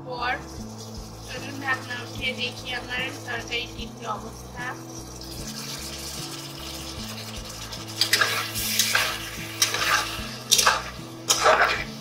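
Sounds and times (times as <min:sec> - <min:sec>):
curry sizzling in a pot: 0:00.2 - 0:12.0
spoon scraping a pan: 0:00.4 - 0:12.0.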